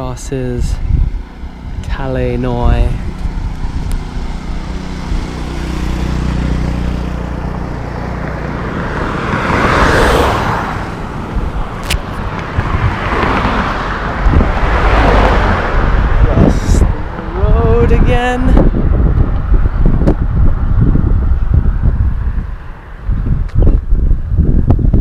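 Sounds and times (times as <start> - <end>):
vehicles passing by: 0.0 - 25.0
low engine hum: 0.6 - 25.0.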